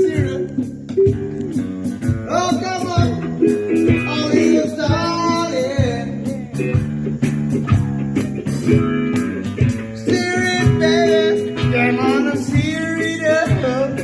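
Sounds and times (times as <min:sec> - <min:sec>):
band music with strummed guitar: 0:00.0 - 0:14.0.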